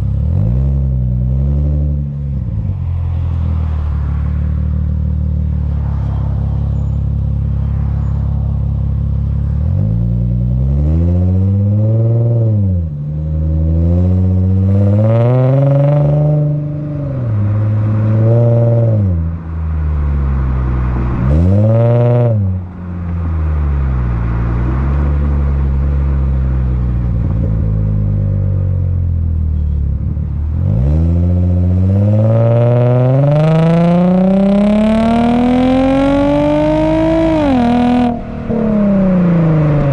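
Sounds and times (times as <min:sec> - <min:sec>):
car exhaust revving and accelerating: 0:00.0 - 0:39.9.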